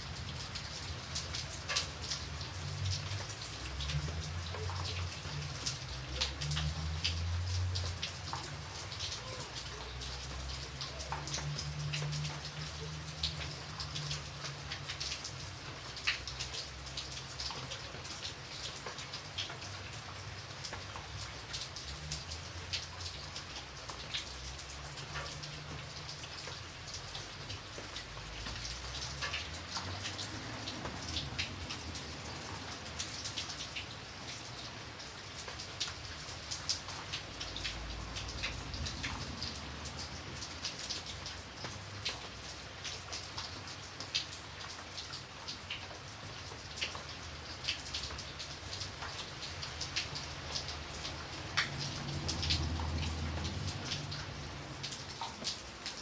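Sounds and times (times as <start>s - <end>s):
light rain falling: 0.0s - 56.0s
raindrops ticking on a surface: 0.0s - 56.0s.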